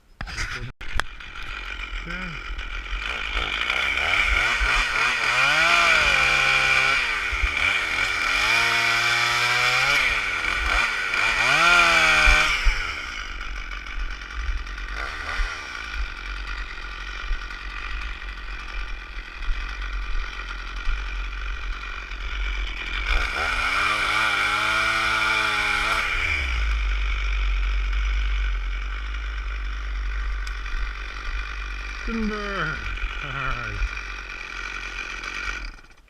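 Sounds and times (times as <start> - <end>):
chainsaw revving: 0.2 - 36.0.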